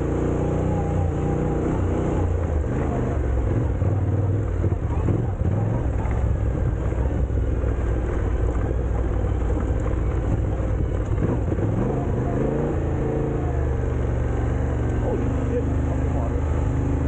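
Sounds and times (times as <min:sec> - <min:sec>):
motorcycle engine: 0:00.0 - 0:17.0
wind and ground noise: 0:00.0 - 0:17.0.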